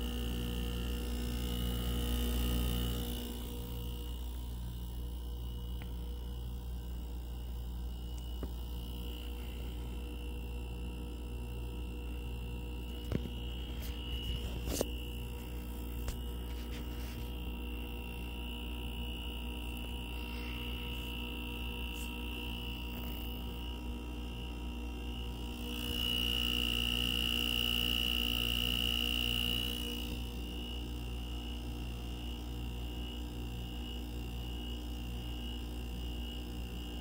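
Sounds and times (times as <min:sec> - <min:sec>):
heat pump humming: 0:00.0 - 0:37.0.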